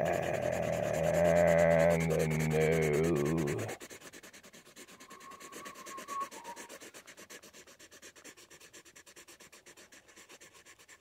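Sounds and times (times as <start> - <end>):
marker scratching on paper: 0.0 - 11.0.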